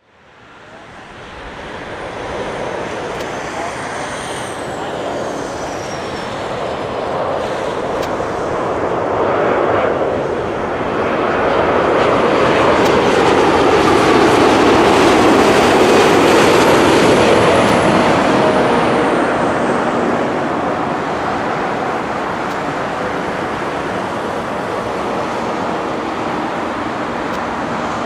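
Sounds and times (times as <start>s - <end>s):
airliner engines roaring: 0.0s - 28.0s.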